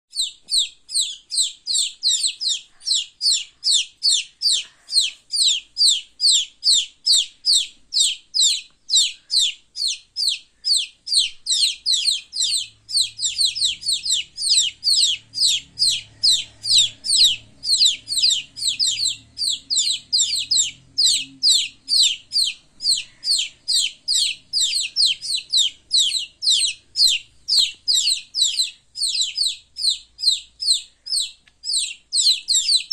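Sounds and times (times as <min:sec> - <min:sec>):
baby chicks peeping: 0:00.1 - 0:32.9.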